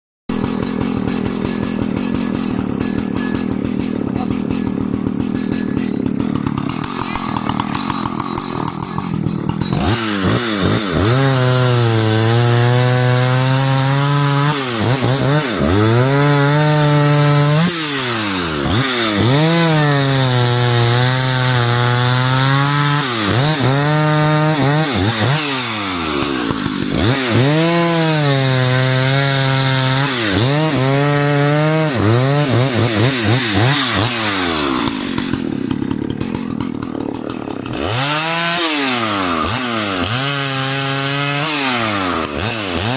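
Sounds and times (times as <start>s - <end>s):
chainsaw cutting a log: 0.3s - 42.9s.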